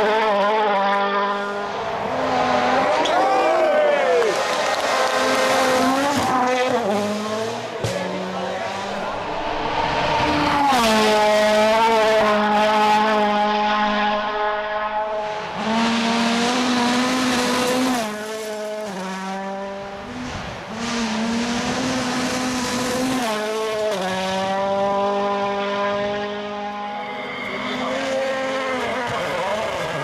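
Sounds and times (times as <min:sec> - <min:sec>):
rally car engine revving hard: 0:00.0 - 0:30.0.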